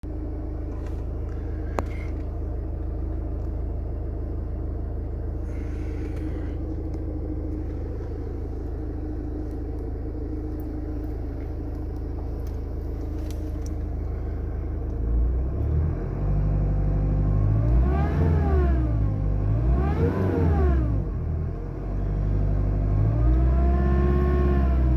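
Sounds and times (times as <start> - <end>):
diesel engine idling and revving: 0.0 - 24.9.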